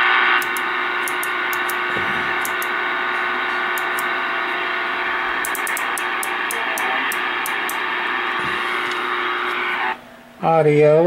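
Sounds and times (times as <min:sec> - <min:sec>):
faint steady hum tone: 0:00.0 - 0:11.0
radio static hiss: 0:00.0 - 0:11.0.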